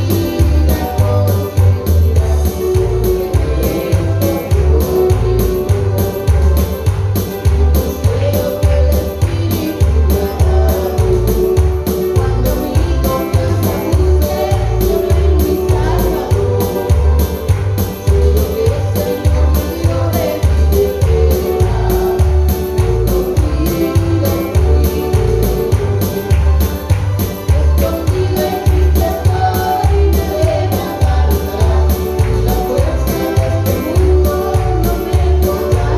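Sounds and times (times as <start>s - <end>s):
gospel music with beat: 0.0s - 35.9s
pulsing bass: 0.0s - 35.9s
sung melody: 0.0s - 35.9s
tambourine-like percussion: 0.0s - 35.9s.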